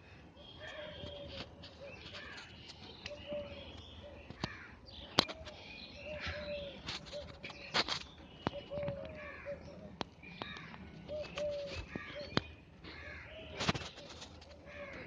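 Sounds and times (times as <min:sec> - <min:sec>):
faint birds calling: 0:00.0 - 0:15.0.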